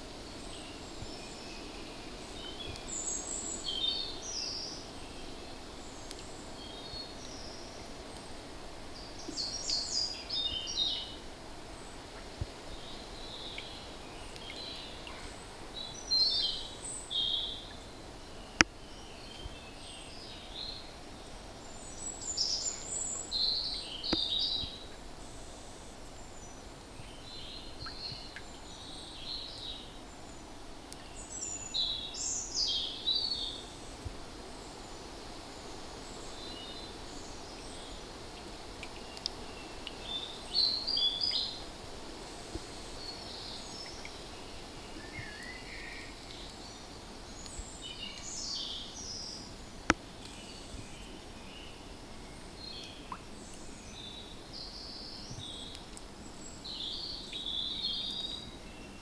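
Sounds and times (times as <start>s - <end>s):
low background noise: 0.0s - 59.0s
birds chirping: 8.9s - 59.0s.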